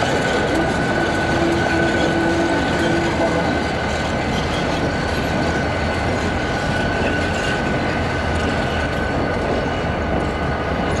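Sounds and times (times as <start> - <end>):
diesel locomotives rumbling: 0.0 - 11.0.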